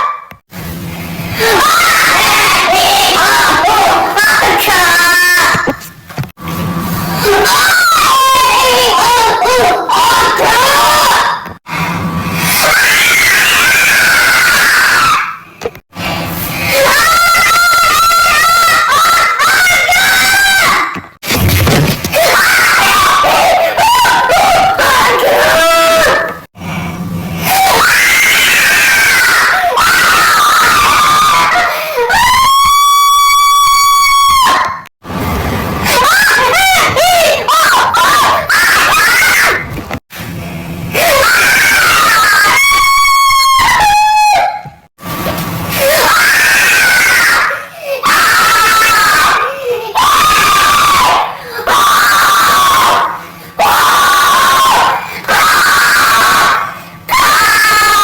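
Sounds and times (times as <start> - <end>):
loud screaming: 1.3 - 5.8, 7.2 - 15.5, 16.7 - 21.1, 22.1 - 26.5, 27.4 - 34.9, 35.8 - 39.7, 40.9 - 44.8, 45.7 - 58.0.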